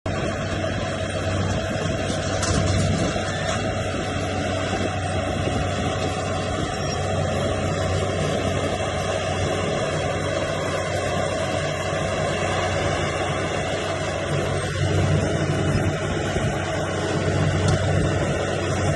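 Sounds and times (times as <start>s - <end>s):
heavy machinery engine humming: 0.1s - 18.9s.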